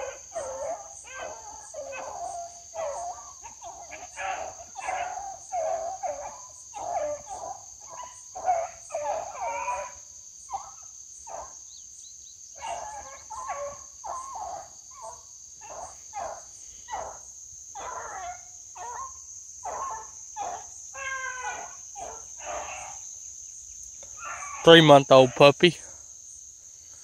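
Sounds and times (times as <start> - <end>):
dogs baying: 0.0 - 11.6, 12.6 - 23.0, 24.2 - 25.4
high insect drone: 0.0 - 27.0.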